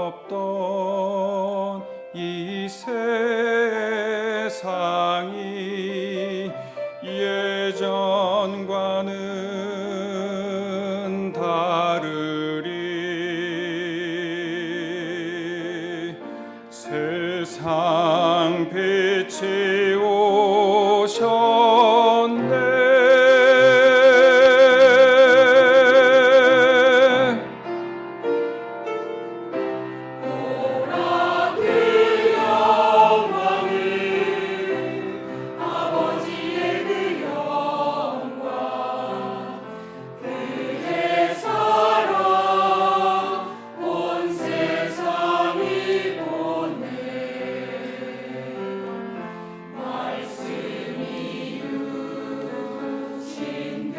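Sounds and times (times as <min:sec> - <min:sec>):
church choir singing: 0:00.0 - 0:27.7, 0:29.8 - 0:53.9.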